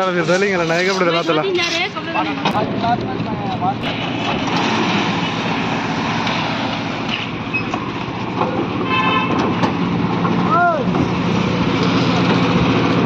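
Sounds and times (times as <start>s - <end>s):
construction machinery running: 0.0s - 13.0s.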